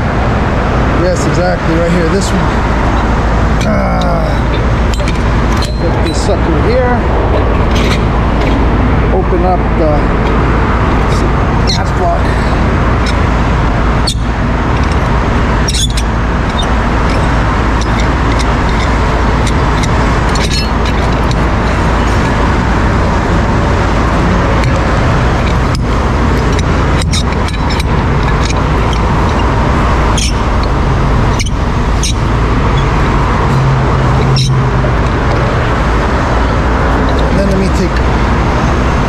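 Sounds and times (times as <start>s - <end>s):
diesel engine running: 0.0s - 39.0s
low hum: 0.0s - 39.0s
sharp clicks and knocks: 1.3s - 8.9s, 10.0s - 38.7s.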